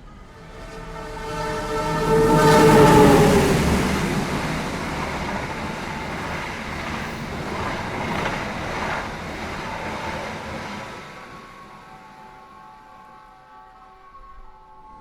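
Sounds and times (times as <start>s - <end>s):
train passing rushing noise: 0.0s - 12.3s
train horn: 0.0s - 15.0s.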